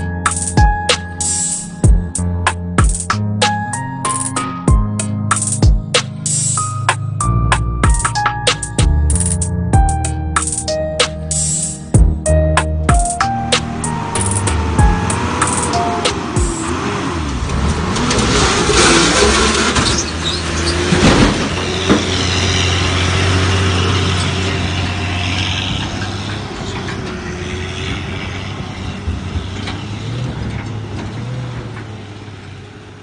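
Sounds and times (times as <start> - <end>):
heavy truck engine running: 0.0 - 33.0.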